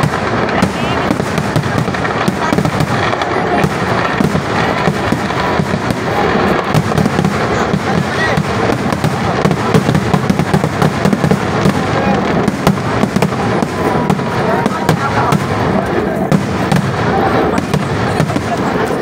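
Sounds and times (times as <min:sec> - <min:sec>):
fireworks barrage crackling: 0:00.0 - 0:19.0.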